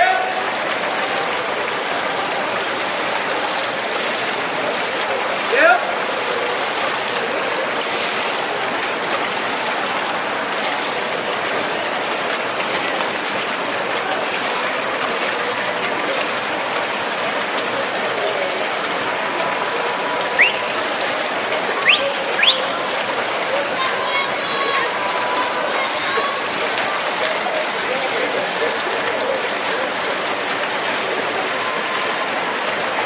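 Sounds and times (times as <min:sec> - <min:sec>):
pool water rushing hiss: 0:00.0 - 0:33.0.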